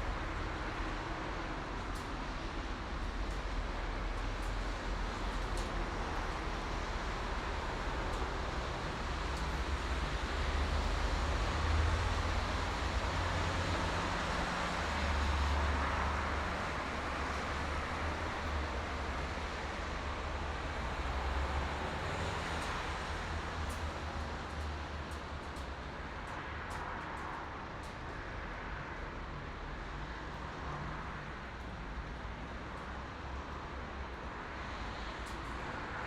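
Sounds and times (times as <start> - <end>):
highway traffic rushing: 0.0 - 36.0.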